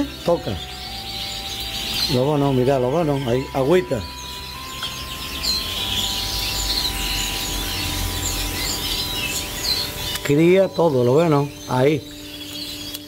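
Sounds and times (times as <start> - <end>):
canaries chirping and trilling: 0.0 - 13.0.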